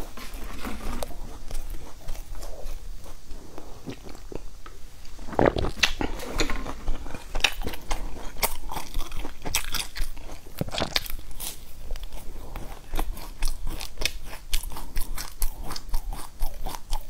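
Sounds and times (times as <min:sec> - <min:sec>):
crunching and chewing cereal bar: 0:00.0 - 0:04.5, 0:05.2 - 0:17.0.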